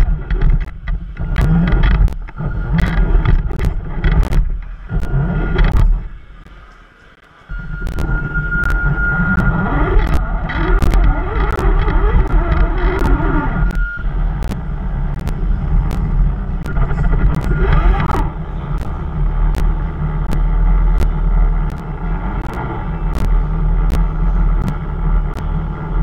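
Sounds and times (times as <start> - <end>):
sharp ticks: 0.0 - 5.9, 9.4 - 26.0
rc crawler low rumble: 0.0 - 26.0.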